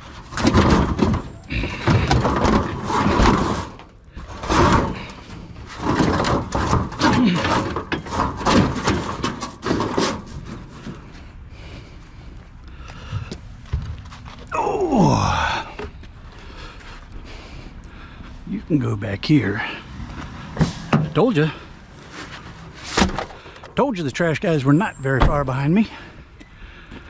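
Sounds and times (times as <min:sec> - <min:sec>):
scrap metal clattering and banging: 0:00.0 - 0:14.5, 0:15.2 - 0:23.8.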